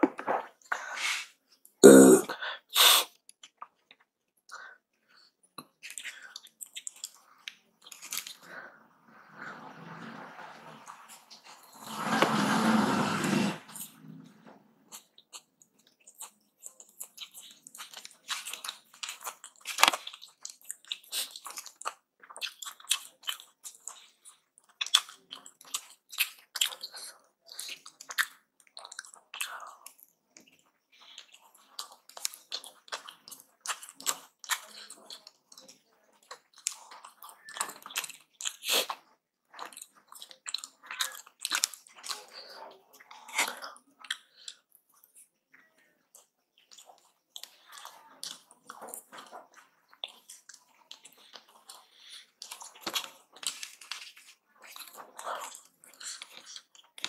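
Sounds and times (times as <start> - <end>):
person chewing: 1.8 - 2.4, 5.1 - 8.6, 14.9 - 57.0.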